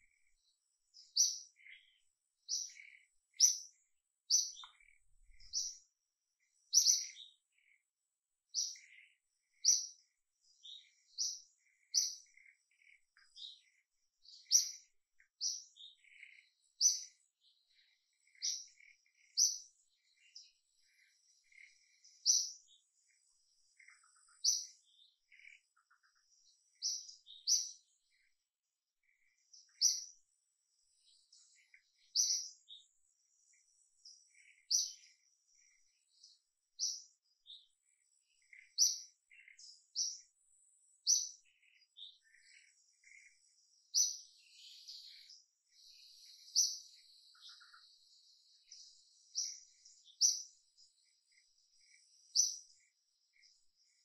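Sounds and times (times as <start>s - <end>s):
bird chirping: 0.0s - 54.0s
faint bird twittering: 0.0s - 54.0s.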